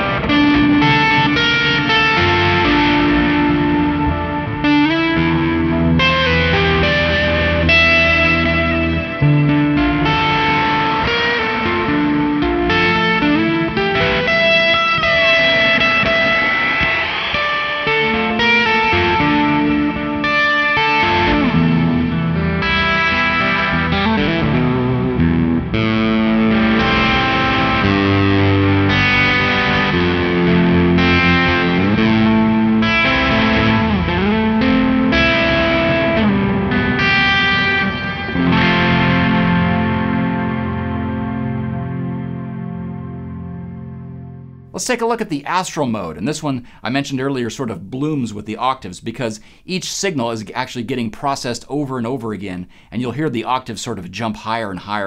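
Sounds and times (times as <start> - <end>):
electric guitar with reverb: 0.0 - 55.0.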